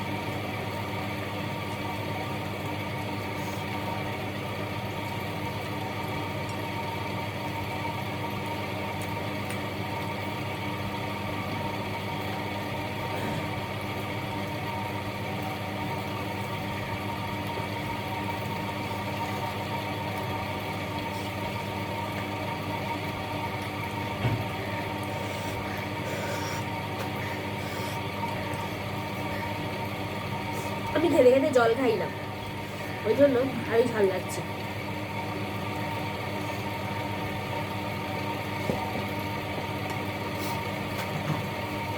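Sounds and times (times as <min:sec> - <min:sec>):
mechanical hum with faint whine: 0:00.0 - 0:41.9.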